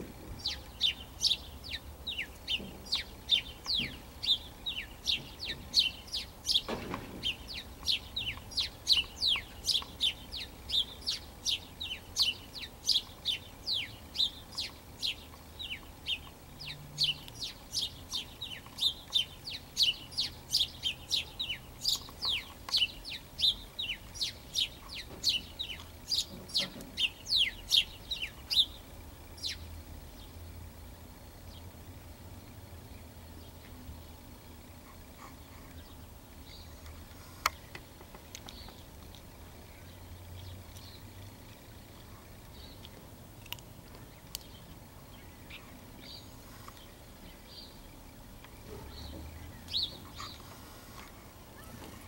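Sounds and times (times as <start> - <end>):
sparrow chirping: 0.0 - 43.0, 44.0 - 52.0.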